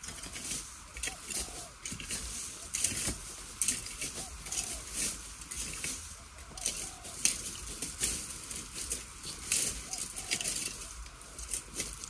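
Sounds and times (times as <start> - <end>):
dry bamboo rustling and crackling: 0.0 - 12.0.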